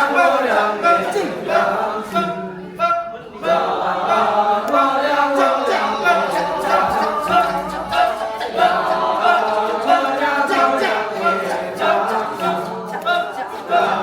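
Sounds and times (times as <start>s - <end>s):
group singing unaccompanied: 0.0s - 14.0s.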